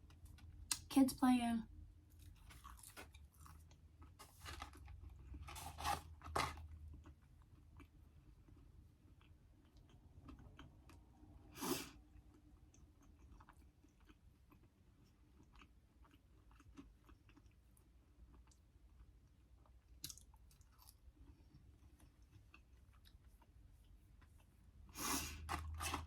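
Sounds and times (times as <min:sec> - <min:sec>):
person chewing food: 0:02.0 - 0:26.0.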